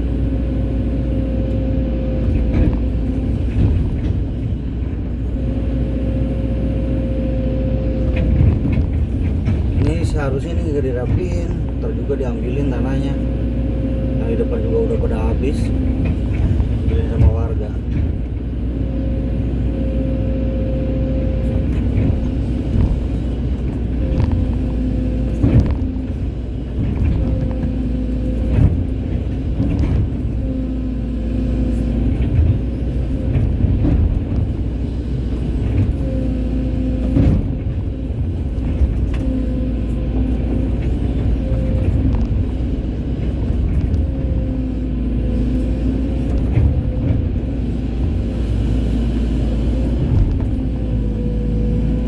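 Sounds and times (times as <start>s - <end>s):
excavator engine rumbling: 0.0s - 52.0s.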